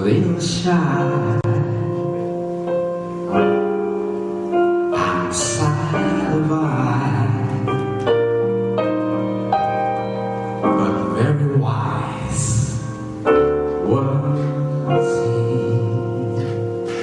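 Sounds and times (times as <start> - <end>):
piano music with sustained chords: 0.0 - 17.0.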